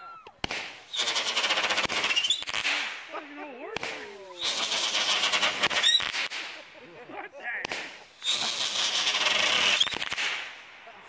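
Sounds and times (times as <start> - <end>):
sharp firework pops: 0.2 - 6.8, 7.6 - 10.9
firework hissing rush: 0.4 - 6.8, 7.6 - 10.9
firework sharp report: 0.4 - 6.8, 7.6 - 11.0.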